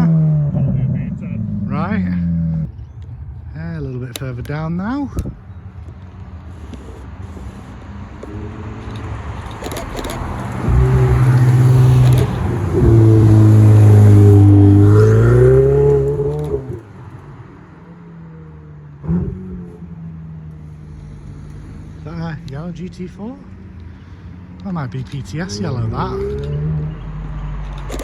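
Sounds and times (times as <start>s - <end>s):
car engine accelerating past: 5.2s - 28.0s.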